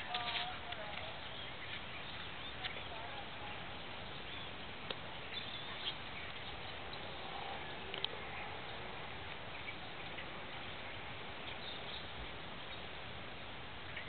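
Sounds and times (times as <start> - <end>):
faint bird chirps: 0.0 - 8.9, 9.5 - 13.0
open-air background hiss: 0.0 - 14.0.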